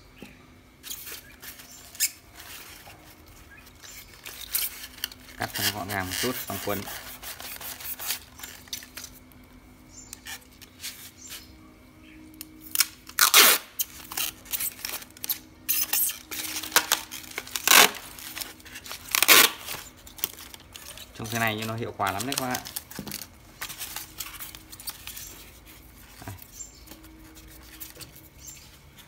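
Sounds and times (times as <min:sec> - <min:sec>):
packing tape ripping off roll: 0:00.8 - 0:09.3, 0:12.4 - 0:28.2
tape crinkles and clicks: 0:00.8 - 0:11.4, 0:12.3 - 0:29.0.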